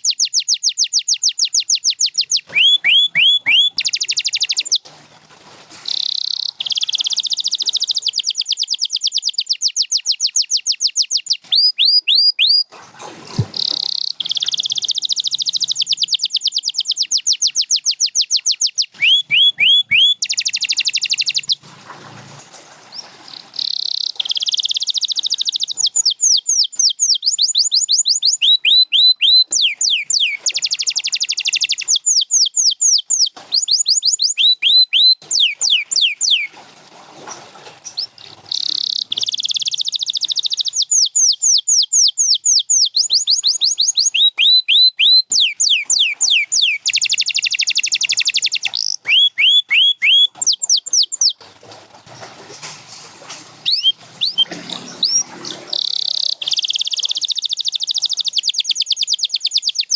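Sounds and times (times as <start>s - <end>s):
canary singing trills: 0.0s - 4.9s, 5.9s - 12.7s, 13.4s - 21.6s, 22.9s - 36.5s, 37.9s - 51.4s, 53.6s - 59.9s.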